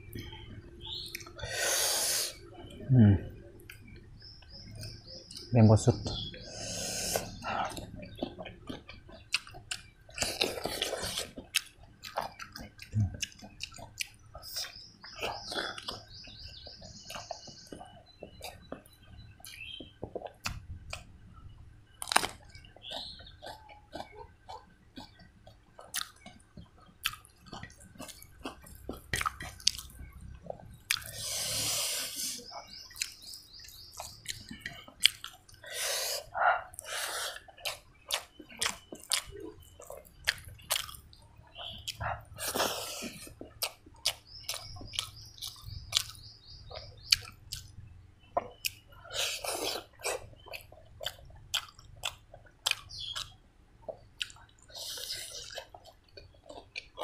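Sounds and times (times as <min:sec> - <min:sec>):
wet lip smacks and chewing: 0:01.0 - 0:01.4, 0:06.9 - 0:21.1, 0:22.0 - 0:31.4, 0:32.2 - 0:47.8, 0:48.4 - 0:57.0.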